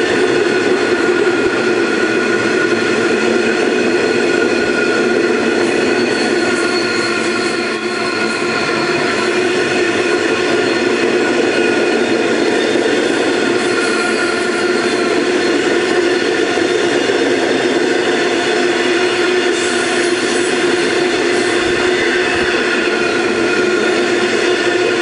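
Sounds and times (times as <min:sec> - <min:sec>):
multi-tone whine: 0:00.0 - 0:25.0
steel wheels rolling on rail: 0:00.0 - 0:25.0.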